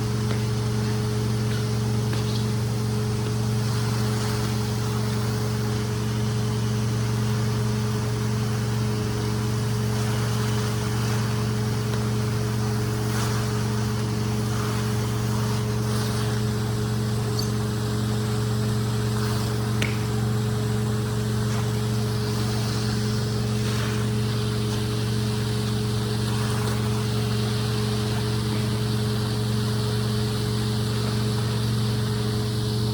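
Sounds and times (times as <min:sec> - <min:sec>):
rug cleaning machine humming: 0:00.0 - 0:32.9.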